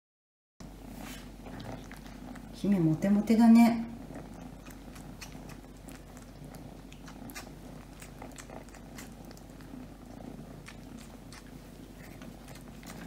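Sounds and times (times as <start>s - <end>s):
cats purring: 0.6s - 13.0s.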